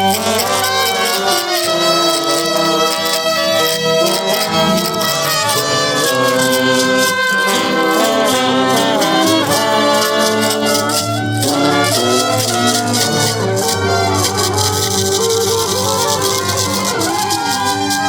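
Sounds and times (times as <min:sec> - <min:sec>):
brass horns playing melody: 0:00.0 - 0:18.0
hand percussion: 0:00.0 - 0:18.0.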